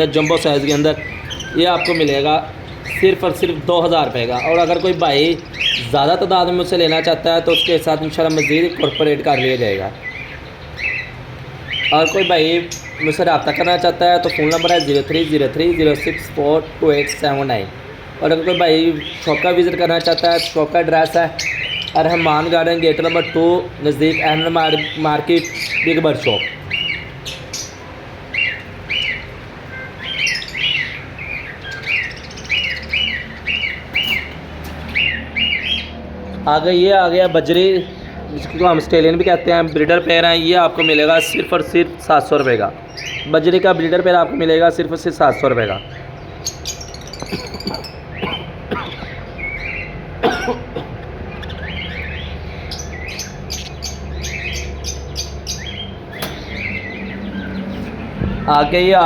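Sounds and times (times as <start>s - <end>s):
parrots chirping: 0.0s - 59.0s.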